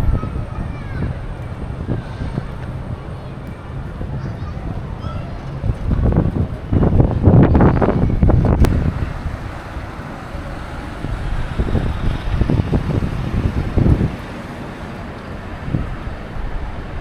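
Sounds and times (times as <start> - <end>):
street noise: 0.0 - 17.0
wind buffeting microphone: 0.0 - 17.0.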